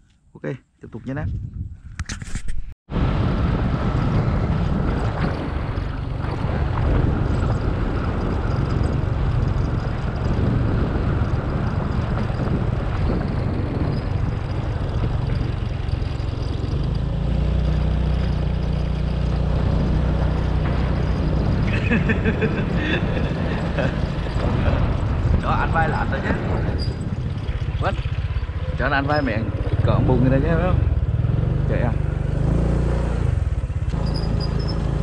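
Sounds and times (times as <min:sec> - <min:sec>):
wind on microphone: 0:00.9 - 0:35.0
motorbike engine running: 0:03.0 - 0:35.0.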